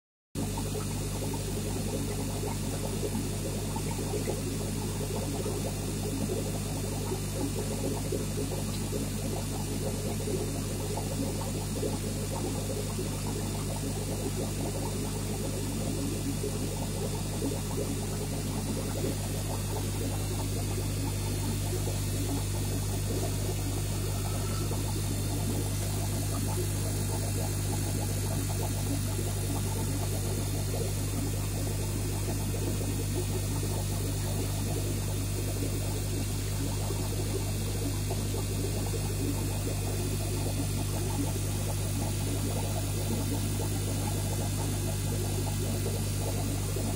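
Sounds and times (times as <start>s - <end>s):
aquarium pump humming: 0.4s - 46.9s
water bubbling and splashing: 0.4s - 46.9s.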